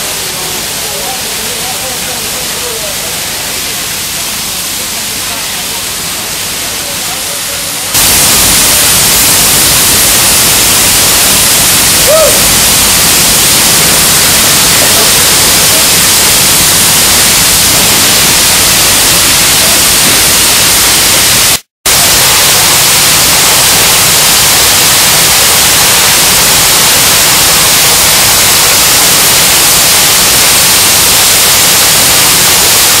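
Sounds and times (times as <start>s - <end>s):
fire hoses spraying water: 0.0s - 33.0s
fire roaring and hissing: 6.1s - 33.0s.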